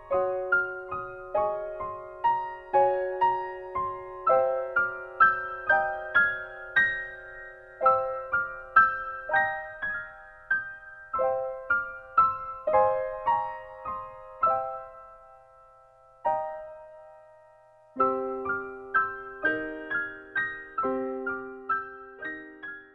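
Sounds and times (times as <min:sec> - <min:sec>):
solo piano notes: 0:00.0 - 0:22.9.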